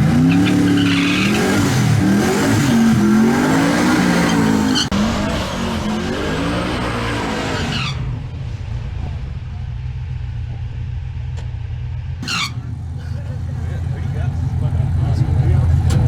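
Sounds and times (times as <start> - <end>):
racing car engine revving: 0.0 - 11.2, 12.2 - 16.0.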